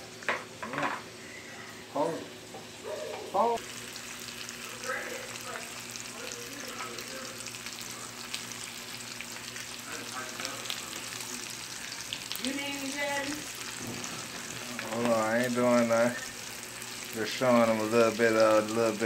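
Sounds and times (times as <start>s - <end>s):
sausages sizzling in a frying pan: 0.0s - 19.0s.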